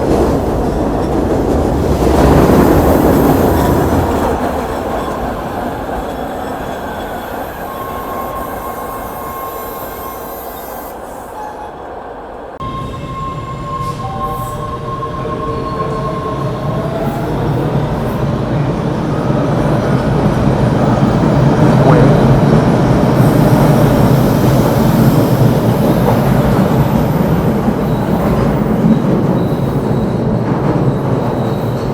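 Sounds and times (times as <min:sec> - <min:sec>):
train running on rails: 0:00.0 - 0:31.9.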